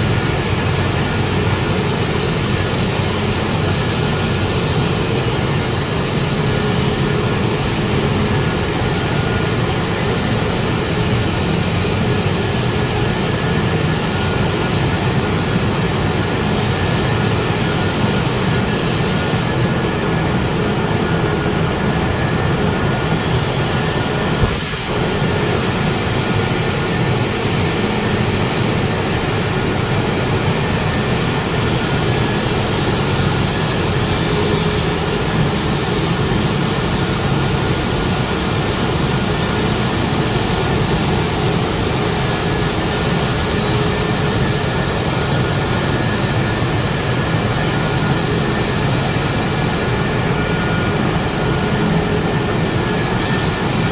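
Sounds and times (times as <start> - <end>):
faint steady whine: 0.0 - 53.9
machinery running: 0.0 - 53.9.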